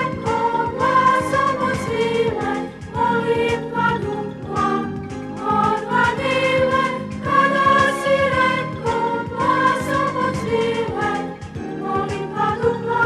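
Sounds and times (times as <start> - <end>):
children's choir singing: 0.0 - 13.0
instrumental backing with beat: 0.0 - 13.0.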